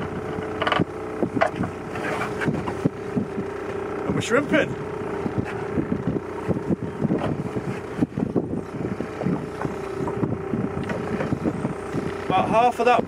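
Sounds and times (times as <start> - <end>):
small boat motor humming: 0.0 - 13.0
wind buffeting microphone: 0.0 - 13.0.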